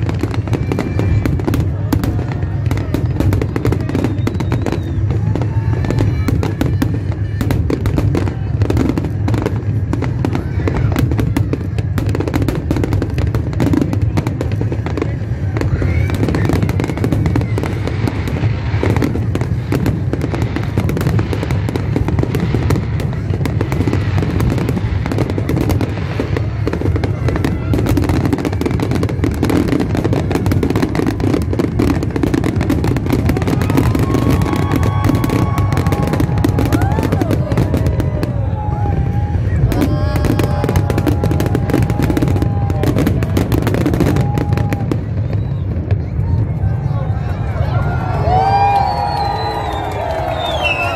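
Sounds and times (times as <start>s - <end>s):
fireworks bursting: 0.0s - 50.9s.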